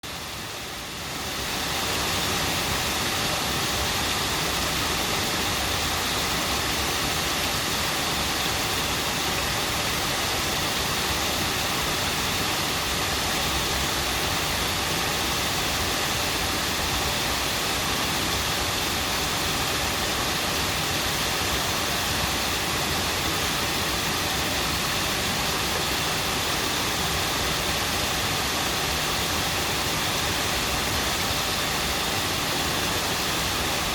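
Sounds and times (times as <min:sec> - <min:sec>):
stream water babbling: 0:00.1 - 0:33.9.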